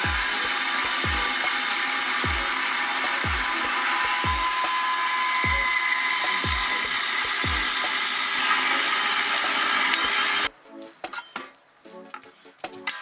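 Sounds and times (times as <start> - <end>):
band saw cutting steel tube: 0.0 - 10.5.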